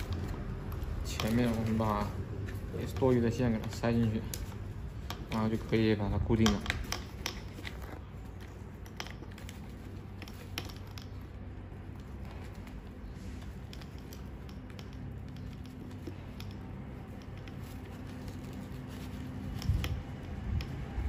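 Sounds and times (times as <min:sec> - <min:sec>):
hands handling wires and plastic: 0:00.0 - 0:21.0
steady low hum: 0:00.0 - 0:21.0.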